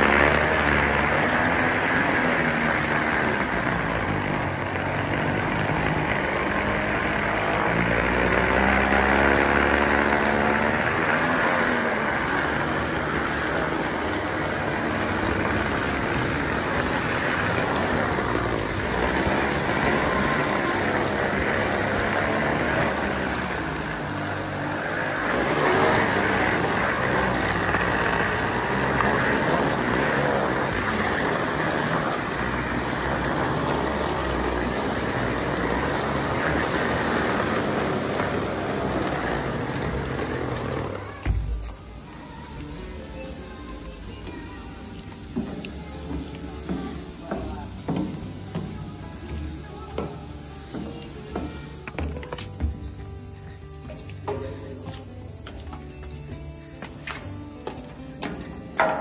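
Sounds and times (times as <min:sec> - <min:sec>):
roller slide rattling rumble: 0:00.0 - 0:59.0.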